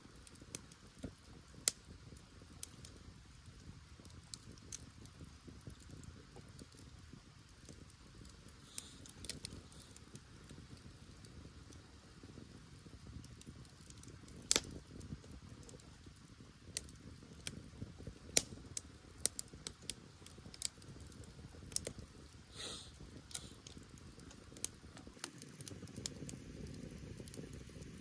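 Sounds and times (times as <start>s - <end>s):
campfire crackling and popping: 0.0s - 28.0s
fire hiss: 0.0s - 28.0s
low rumble of flame: 0.0s - 28.0s.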